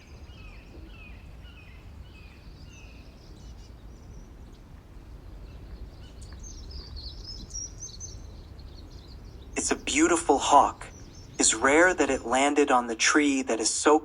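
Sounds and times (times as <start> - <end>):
birds chirping: 0.0 - 14.0
birds twittering: 0.0 - 14.0
low outdoor rumble: 1.8 - 14.0.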